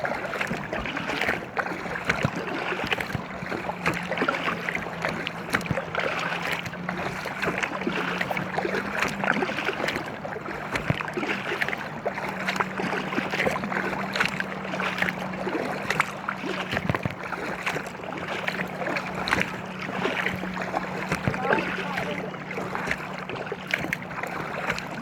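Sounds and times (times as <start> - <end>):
motorboat engine drone: 0.0 - 25.0
water splashing around kayak: 0.0 - 25.0.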